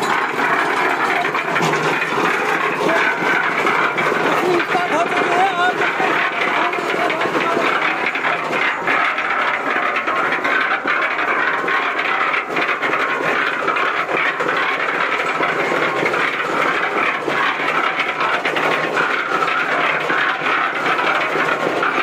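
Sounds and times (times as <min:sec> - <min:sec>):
concrete mixer churning water: 0:00.0 - 0:22.0
machine rattling: 0:00.0 - 0:22.0.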